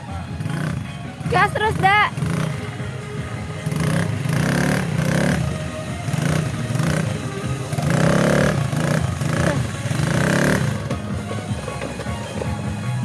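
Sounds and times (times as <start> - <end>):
music playing: 0.0 - 13.0
small atv engine running: 0.0 - 13.0.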